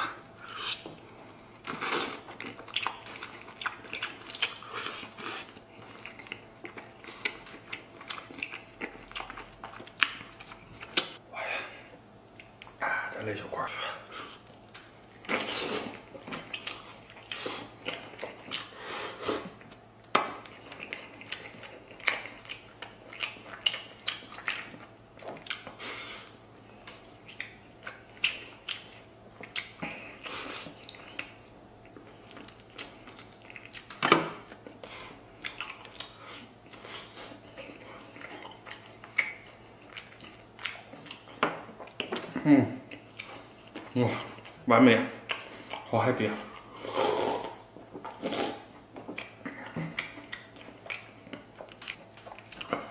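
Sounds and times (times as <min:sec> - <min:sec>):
wet chewing: 0:00.0 - 0:11.2, 0:14.1 - 0:45.9, 0:46.5 - 0:52.9.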